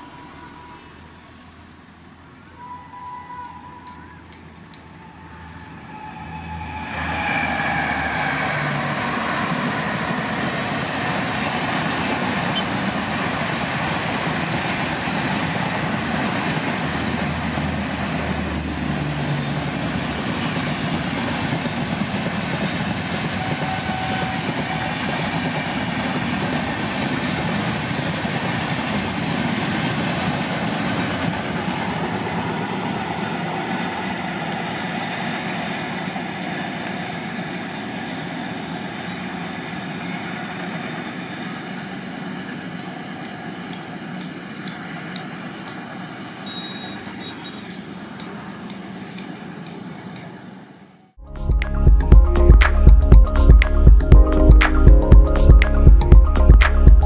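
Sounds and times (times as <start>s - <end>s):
wheel and rail noise: 0.0s - 51.2s
train passing: 0.0s - 57.0s.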